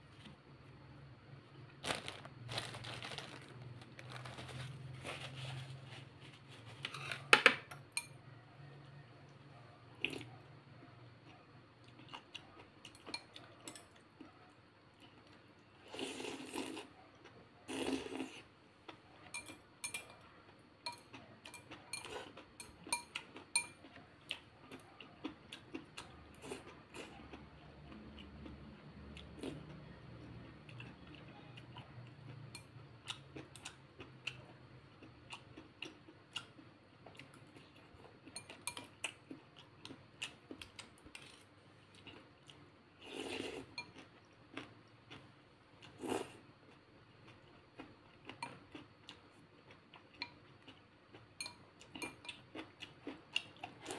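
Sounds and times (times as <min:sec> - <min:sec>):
chopsticks and spoon on bowl: 0:01.9 - 0:10.5, 0:11.2 - 0:14.5, 0:17.7 - 0:45.2, 0:45.8 - 0:53.9.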